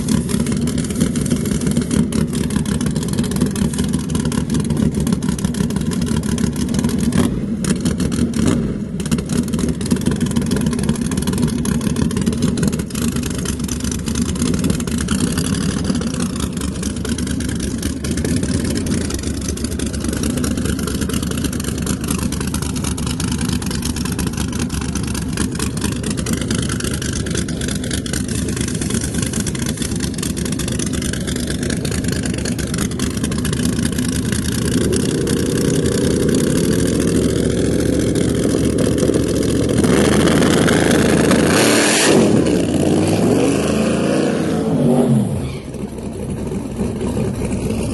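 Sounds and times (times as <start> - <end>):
drag car engine running: 0.0 - 47.9.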